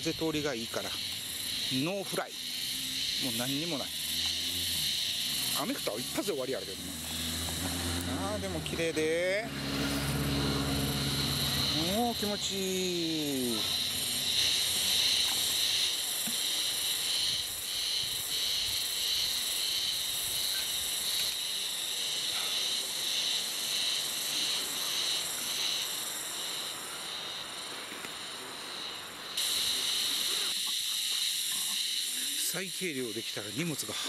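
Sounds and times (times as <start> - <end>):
insects chirping shrilly: 0.0 - 34.0.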